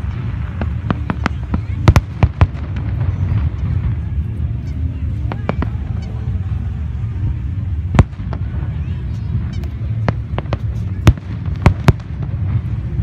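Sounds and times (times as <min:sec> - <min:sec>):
fireworks bursting: 0:00.0 - 0:06.8, 0:07.5 - 0:13.0
low rumble: 0:00.0 - 0:13.0.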